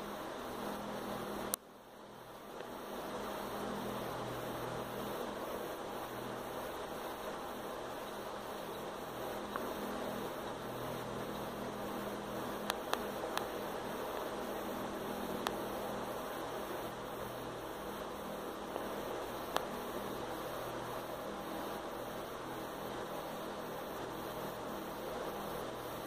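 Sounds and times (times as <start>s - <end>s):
even hiss: 0.0s - 26.0s.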